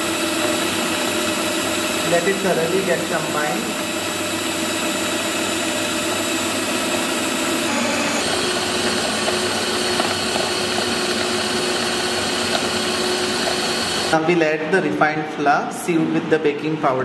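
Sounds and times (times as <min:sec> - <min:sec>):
electric hand mixer running: 0:00.0 - 0:14.3.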